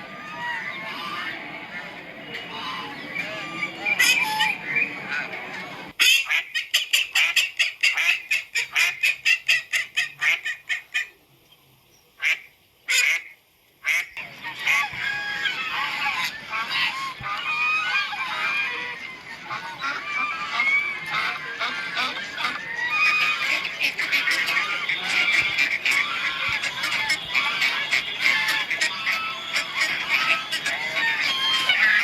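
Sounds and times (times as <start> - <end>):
geese and ducks calling: 0.0 - 11.1, 12.2 - 32.0.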